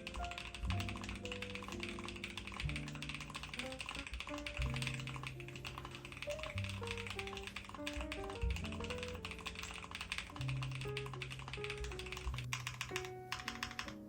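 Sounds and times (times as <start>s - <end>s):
background music: 0.0s - 14.0s
fast mechanical keyboard typing: 0.0s - 14.0s.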